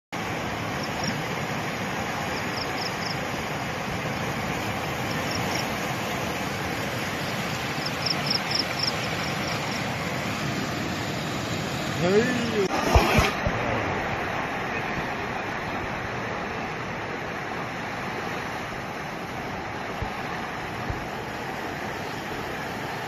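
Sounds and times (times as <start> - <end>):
floodwater rushing: 0.2 - 23.0.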